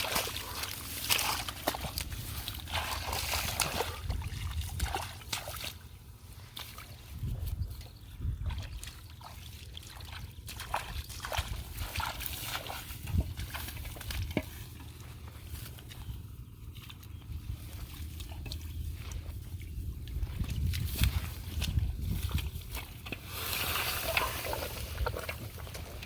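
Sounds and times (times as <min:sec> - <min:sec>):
shallow water splashing: 0:00.0 - 0:07.2, 0:08.4 - 0:26.0.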